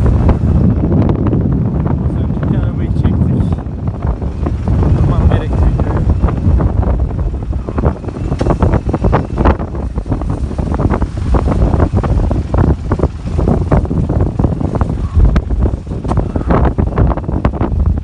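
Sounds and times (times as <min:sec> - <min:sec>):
blizzard wind buffeting microphone: 0:00.0 - 0:18.0.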